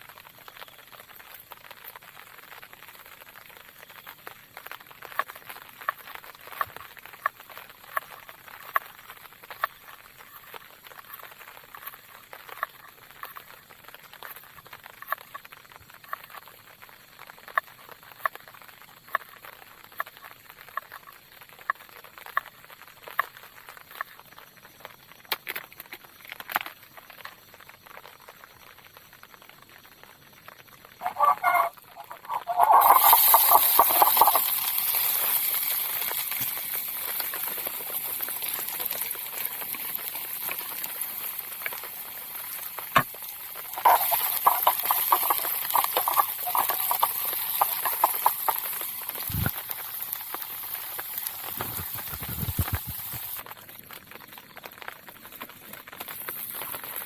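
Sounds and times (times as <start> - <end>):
food sizzling in hot oil: 0.0 - 57.0
light ticks and pops: 0.0 - 57.0.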